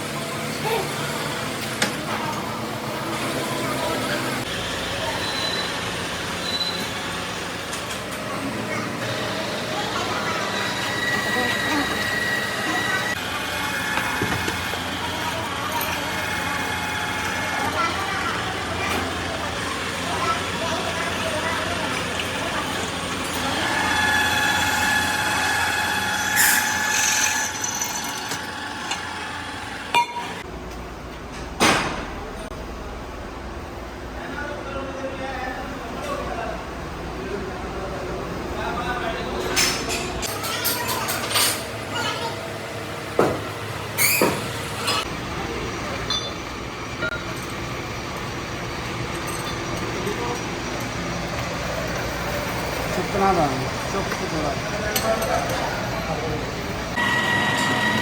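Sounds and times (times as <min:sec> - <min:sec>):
shop machinery whine: 0:00.0 - 0:58.0.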